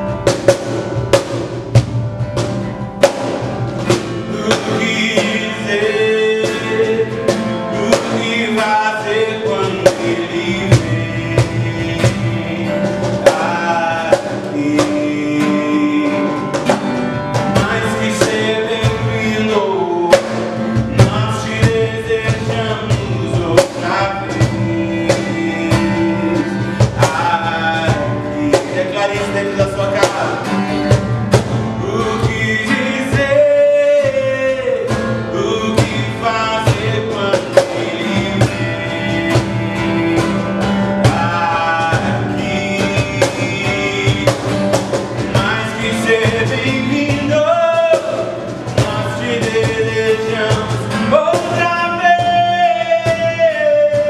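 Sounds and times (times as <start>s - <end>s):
acoustic guitar strumming: 0.0s - 54.0s
steady drum beat: 0.0s - 54.0s
man singing: 3.0s - 54.0s.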